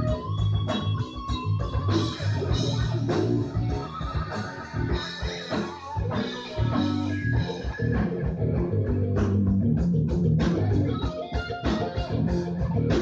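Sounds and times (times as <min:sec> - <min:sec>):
bass: 0:00.0 - 0:13.0
electric guitar: 0:00.0 - 0:13.0
steady drum beat: 0:00.0 - 0:13.0.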